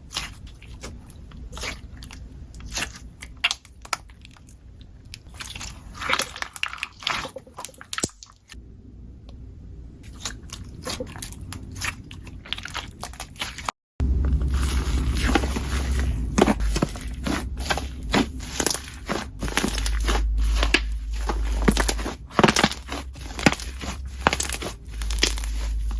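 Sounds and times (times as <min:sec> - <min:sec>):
slime crackling and squishing: 0:00.0 - 0:08.6, 0:10.0 - 0:25.9.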